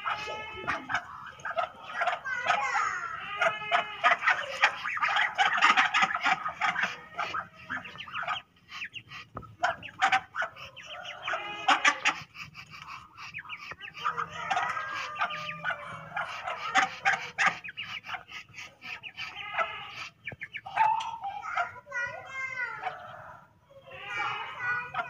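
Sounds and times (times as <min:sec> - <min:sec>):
ducks calling: 0:00.0 - 0:25.0.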